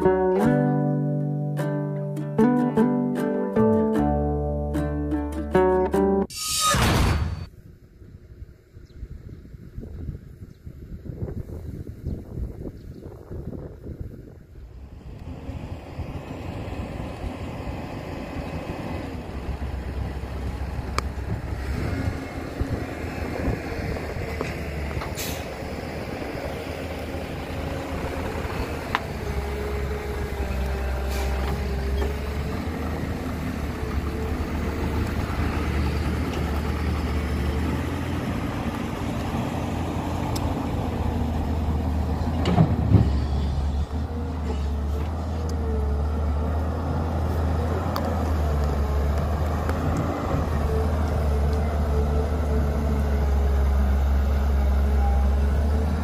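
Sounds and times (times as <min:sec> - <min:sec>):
diesel machinery rumbling: 0:00.0 - 0:06.3, 0:13.2 - 0:56.0.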